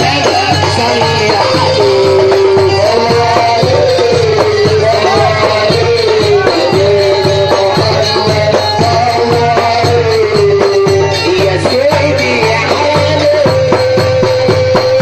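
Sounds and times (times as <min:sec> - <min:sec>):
hand percussion and rattles: 0:00.0 - 0:15.0.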